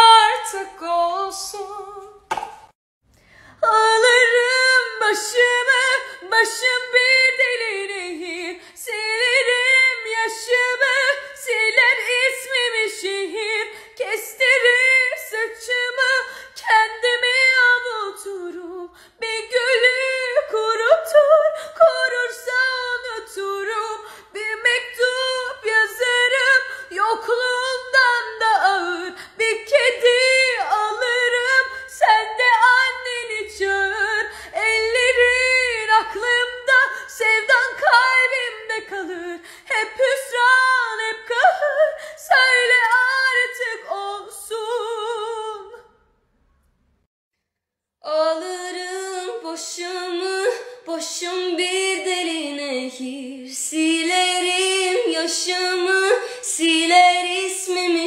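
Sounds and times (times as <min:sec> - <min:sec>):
woman singing a cappella: 0:00.0 - 0:02.3, 0:03.4 - 0:46.0, 0:48.0 - 0:58.0.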